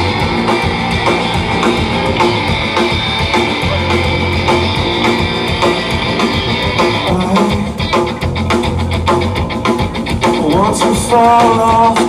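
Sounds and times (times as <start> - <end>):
drum kit: 0.0 - 12.0
electric guitar: 0.0 - 12.0.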